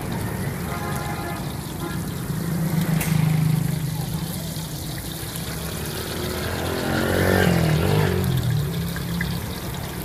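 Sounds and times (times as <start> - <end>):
deep-frying sizzling hiss: 0.0 - 10.0.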